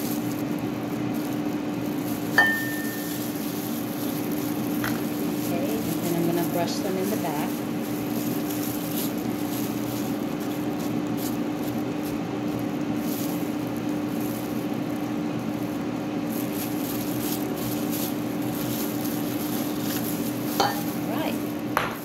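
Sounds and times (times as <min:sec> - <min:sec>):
air fryer fan humming: 0:00.0 - 0:22.0.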